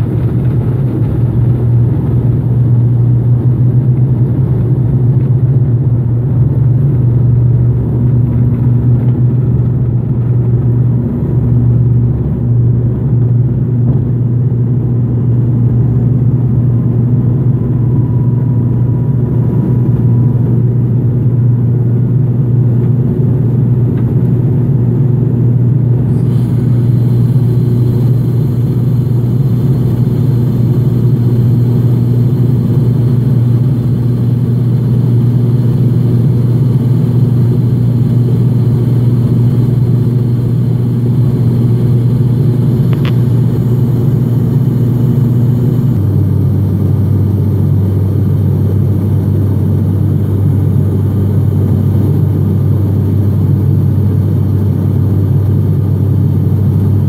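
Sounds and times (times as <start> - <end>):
propeller engine hum: 0.0 - 57.0.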